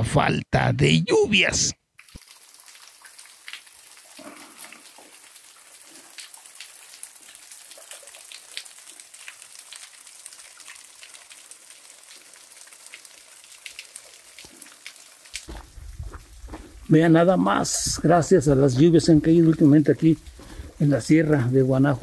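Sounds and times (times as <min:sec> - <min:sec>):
waterfall splashing onto rock: 0:02.0 - 0:22.0.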